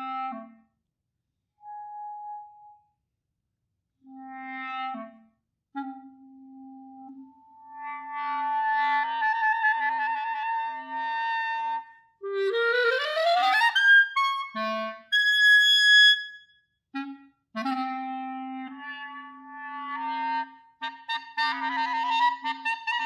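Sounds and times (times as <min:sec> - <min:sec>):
solo clarinet playing: 0:00.0 - 0:00.7, 0:04.0 - 0:16.4, 0:17.0 - 0:23.0.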